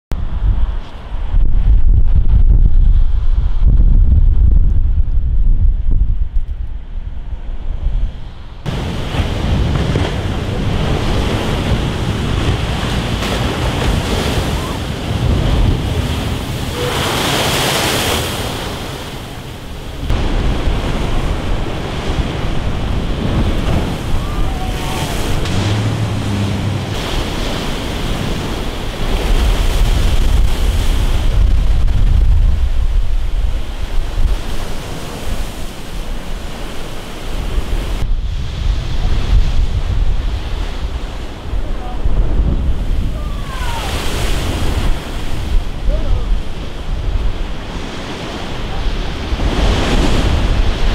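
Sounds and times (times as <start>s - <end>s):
wind buffeting microphone: 0.1s - 50.9s
surf crashing against seawall: 8.6s - 50.9s.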